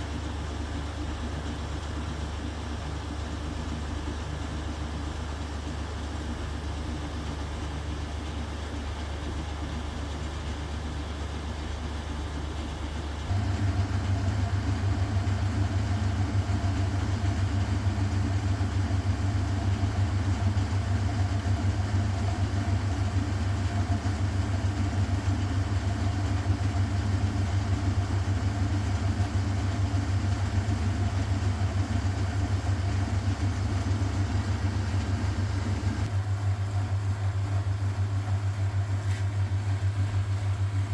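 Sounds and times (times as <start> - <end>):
washing machine humming: 0.0 - 40.9.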